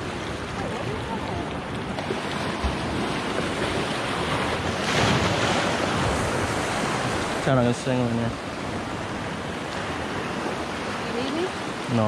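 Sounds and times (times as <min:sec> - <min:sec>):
waves splashing over rocks: 0:00.0 - 0:12.0.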